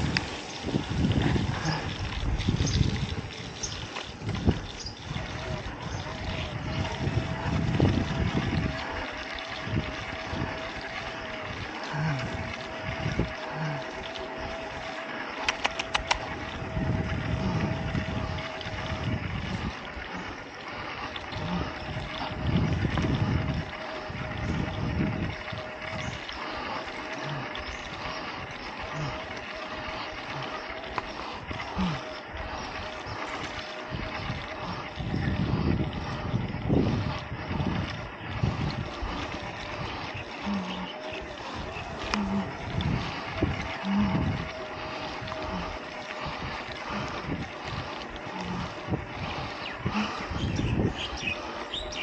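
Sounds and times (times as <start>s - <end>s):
bike tyre noise: 0.0s - 52.0s
faint steady hum: 0.0s - 52.0s
wind buffeting microphone: 0.0s - 52.0s.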